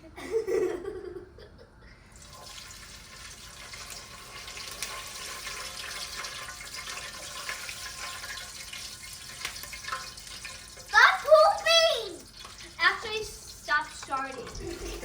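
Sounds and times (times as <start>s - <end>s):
water running from tap: 2.2s - 15.0s.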